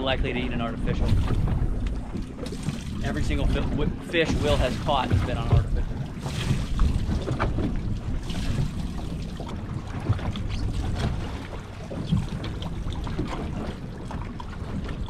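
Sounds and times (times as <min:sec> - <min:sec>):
water lapping against hull: 0:00.0 - 0:15.0
wind buffeting microphone: 0:00.0 - 0:15.0.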